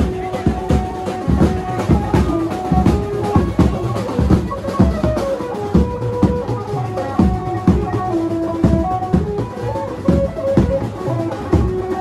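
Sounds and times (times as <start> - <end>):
fast heavy drum beat: 0.0 - 12.0.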